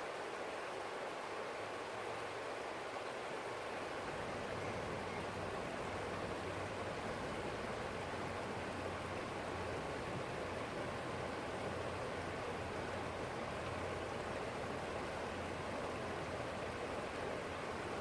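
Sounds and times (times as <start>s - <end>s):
stream flowing: 0.0s - 18.0s.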